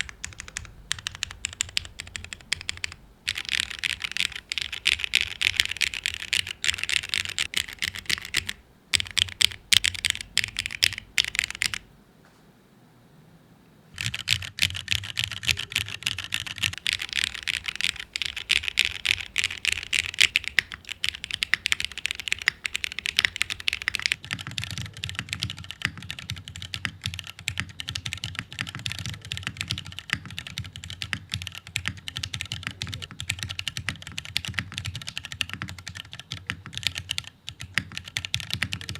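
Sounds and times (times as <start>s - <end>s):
fast mechanical keyboard typing: 0.0s - 11.9s, 14.0s - 38.9s.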